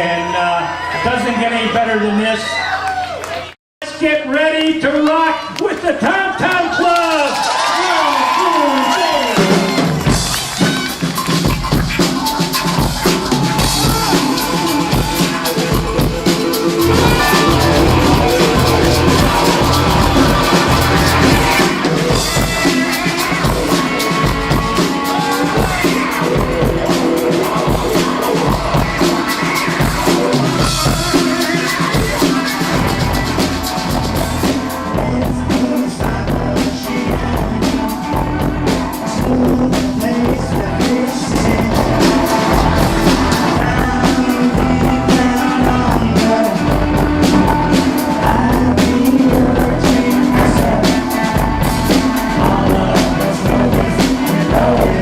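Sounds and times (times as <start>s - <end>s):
live rock band playing: 9.2s - 55.0s
drum kit beat: 9.3s - 55.0s.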